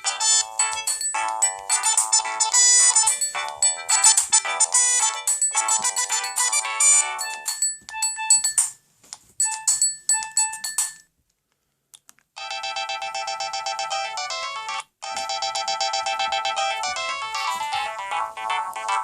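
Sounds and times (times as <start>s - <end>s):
mobile phone ringtone: 0.0s - 8.8s, 9.4s - 11.1s, 12.4s - 19.0s.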